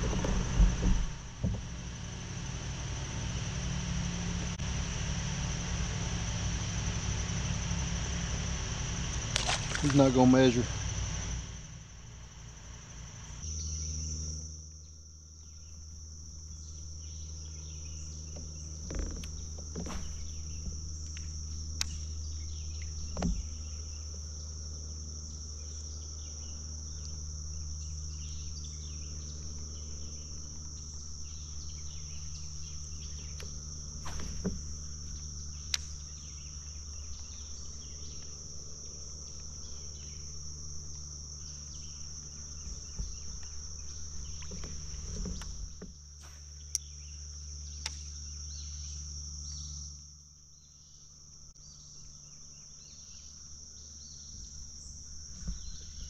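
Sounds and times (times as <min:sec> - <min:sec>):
insects chorus: 0:00.0 - 0:56.0
low hum: 0:00.0 - 0:56.0.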